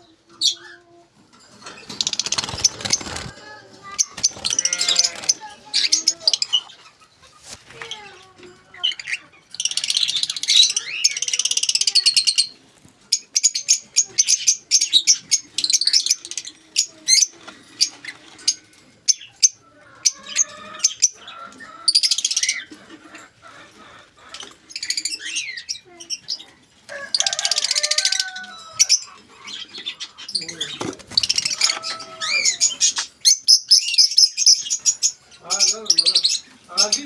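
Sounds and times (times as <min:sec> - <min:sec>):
buzzy bird chatter: 0:00.0 - 0:37.0
lovebirds chirping: 0:00.0 - 0:37.0.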